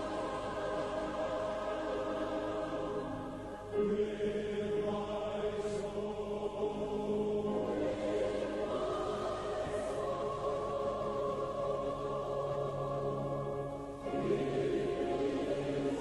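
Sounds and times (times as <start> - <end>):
background music: 0.0 - 16.0
choral chanting: 0.0 - 16.0.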